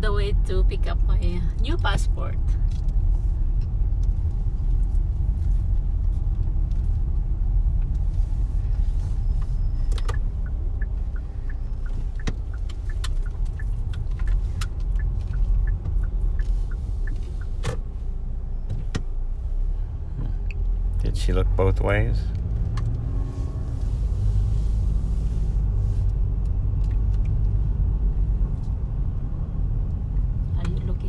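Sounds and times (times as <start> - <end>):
engine and road rumble: 0.0 - 31.0.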